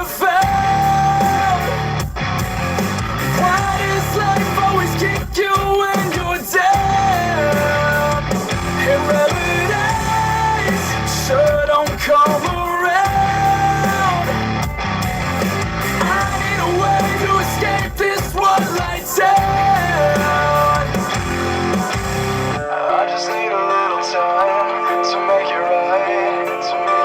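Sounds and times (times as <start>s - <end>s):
bass: 0.0s - 22.7s
distorted guitars: 0.0s - 27.0s
drums: 0.0s - 27.0s
rock vocal singing and shouting: 0.0s - 27.0s.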